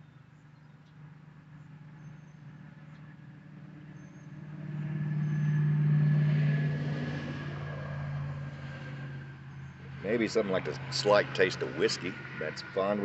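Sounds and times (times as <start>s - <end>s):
vehicle passing by: 1.7s - 13.0s.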